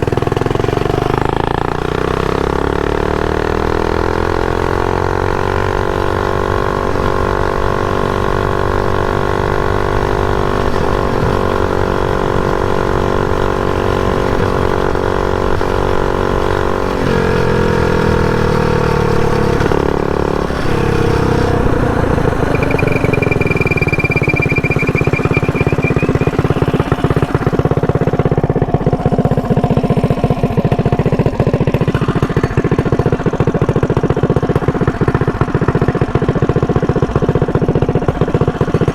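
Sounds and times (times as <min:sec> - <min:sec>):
mini bike engine running: 0:00.0 - 0:38.9.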